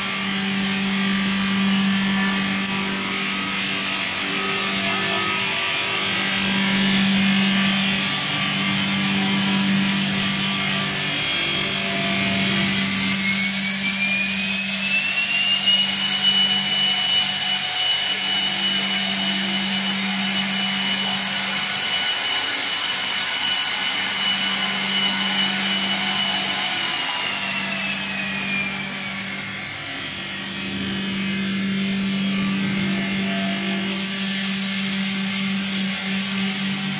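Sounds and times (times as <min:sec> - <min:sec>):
disperser whine: 0:00.0 - 0:36.9
mixer motor hum: 0:00.0 - 0:36.9.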